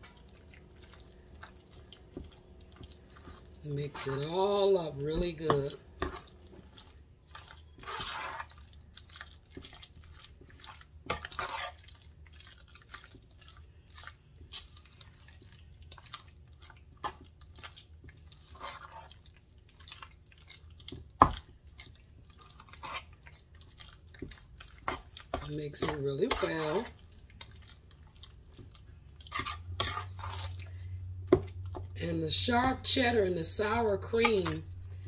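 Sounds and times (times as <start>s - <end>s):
wet squelches of stirring: 0.0s - 35.0s.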